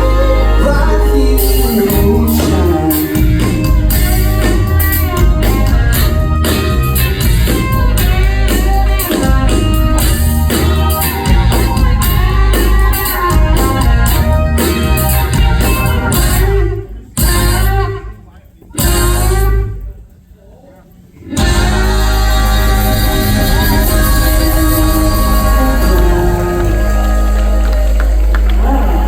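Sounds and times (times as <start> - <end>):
electric guitar: 0.0 - 18.0, 21.3 - 29.0
bass guitar: 0.0 - 18.2, 18.8 - 19.9, 21.3 - 29.0
drum kit: 0.0 - 20.0, 21.3 - 29.0.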